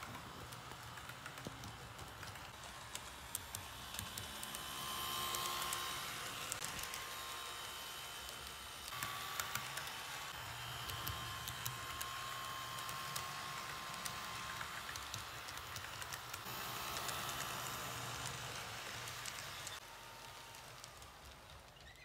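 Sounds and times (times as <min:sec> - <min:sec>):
model train motor hum: 0:00.0 - 0:22.0.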